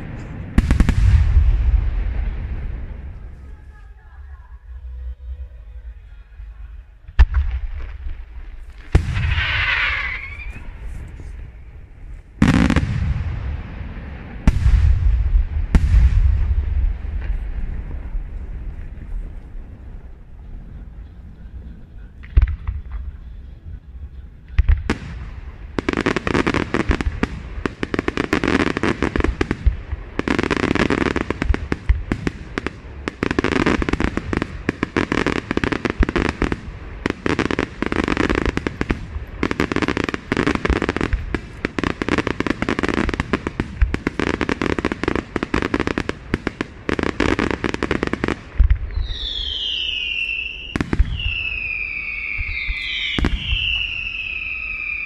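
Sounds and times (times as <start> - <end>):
firework bursts and crackles: 0.0 - 55.0
whistling fireworks: 0.0 - 55.0.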